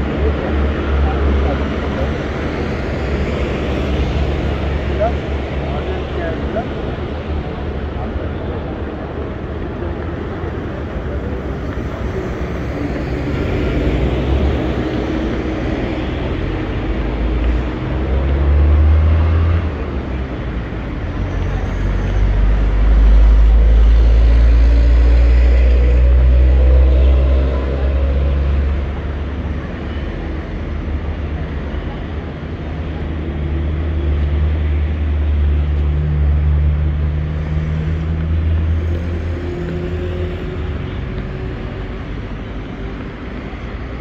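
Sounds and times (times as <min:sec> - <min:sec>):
vehicle engines passing: 0:00.0 - 0:44.0.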